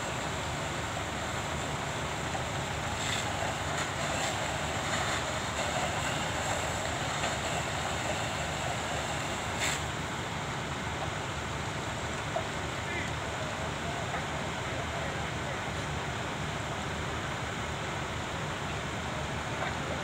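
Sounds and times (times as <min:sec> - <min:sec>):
constant hiss: 0:00.0 - 0:20.0
diesel engines rumbling: 0:00.0 - 0:20.0.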